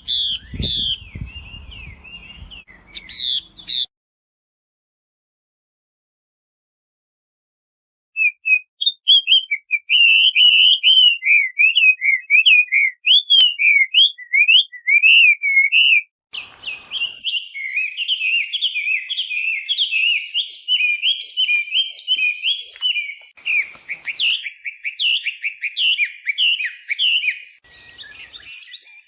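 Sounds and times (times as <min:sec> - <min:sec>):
bird singing whistled notes: 0:00.0 - 0:03.9, 0:08.2 - 0:29.0.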